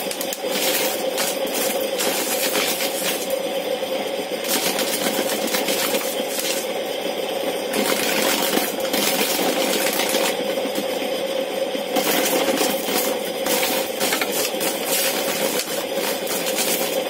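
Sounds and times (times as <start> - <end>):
corn cob scraping: 0.0 - 3.4, 4.4 - 6.7, 7.7 - 10.8, 12.0 - 17.0
loose kernels rattling: 0.0 - 3.4, 4.4 - 6.7, 7.7 - 10.9, 12.0 - 17.0
motor-driven spinning disc humming: 0.0 - 17.0.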